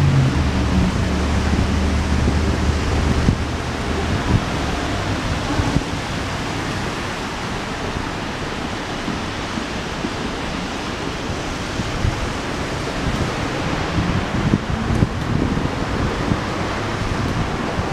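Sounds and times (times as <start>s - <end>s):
busy street noise: 0.0s - 17.9s.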